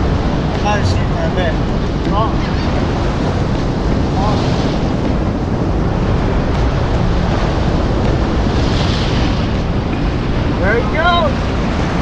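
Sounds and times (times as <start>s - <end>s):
waves breaking against rocks: 0.0s - 12.0s
wind buffeting microphone: 0.0s - 12.0s.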